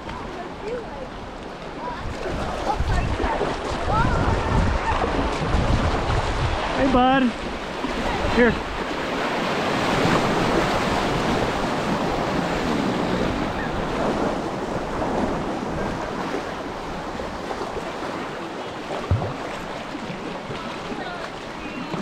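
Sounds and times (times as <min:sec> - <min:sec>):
creek water rushing: 0:00.0 - 0:22.0
wind buffeting microphone: 0:00.0 - 0:22.0.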